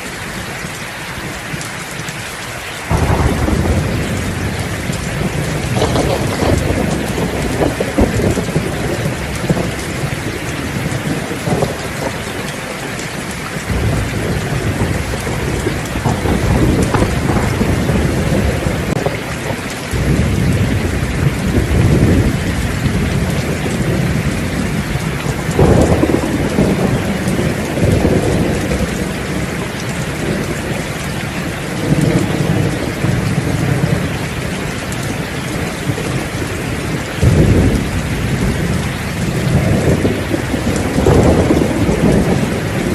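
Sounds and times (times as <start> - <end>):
heavy rain: 0.0 - 42.9
thunder rumbling: 2.8 - 42.9.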